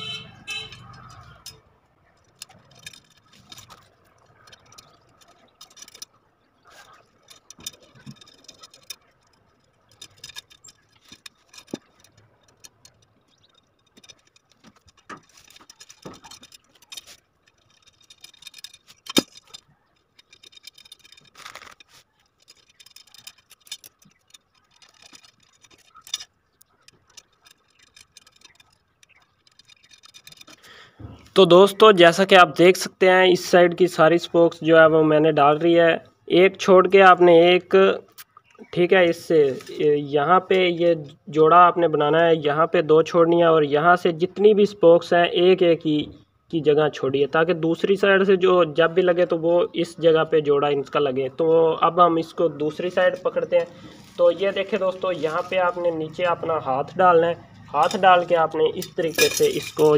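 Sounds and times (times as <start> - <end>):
metal spokes clinking: 0.0 - 59.9.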